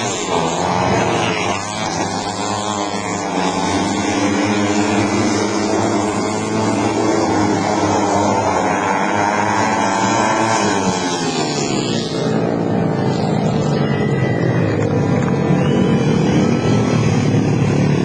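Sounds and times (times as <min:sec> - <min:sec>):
motorcycle engines racing: 0:00.0 - 0:18.0.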